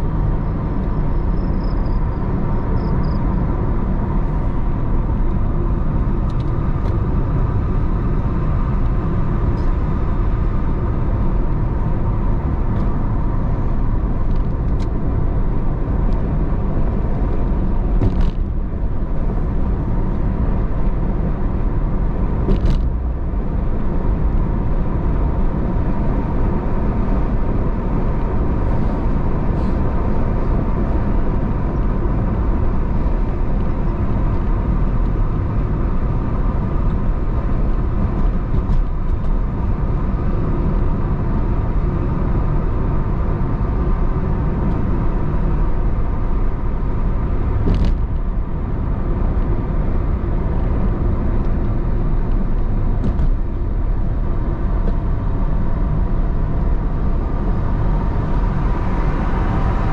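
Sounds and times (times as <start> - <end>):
car driving along a road: 0.0 - 59.9.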